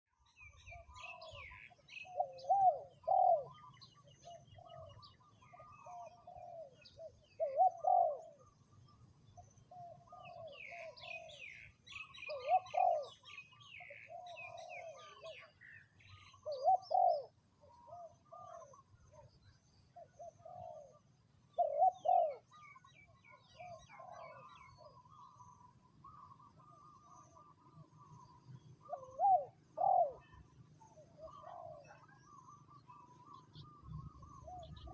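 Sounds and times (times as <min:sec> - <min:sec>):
small birds chirping: 0:00.1 - 0:34.9
dove cooing: 0:00.7 - 0:08.6, 0:09.7 - 0:19.3, 0:20.0 - 0:34.9.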